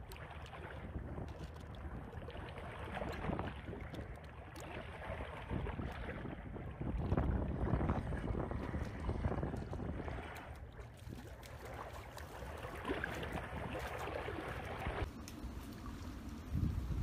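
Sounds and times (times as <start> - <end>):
seawater sloshing and splashing: 0.0 - 17.0
wind rumbling on microphone: 0.0 - 17.0.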